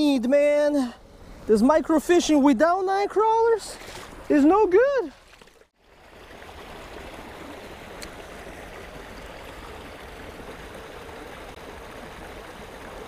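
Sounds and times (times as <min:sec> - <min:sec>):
creek flowing over stones: 0:01.5 - 0:13.0.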